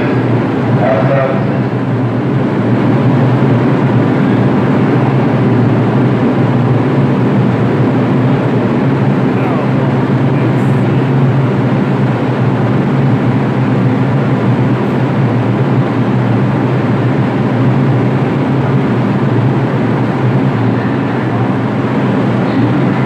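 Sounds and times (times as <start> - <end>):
subway train low hum: 0.0 - 23.0.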